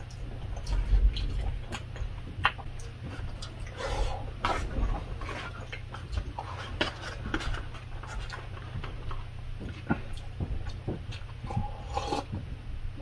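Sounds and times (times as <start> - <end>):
chewing with wet mouth clicks: 0.0 - 3.8, 4.4 - 12.2.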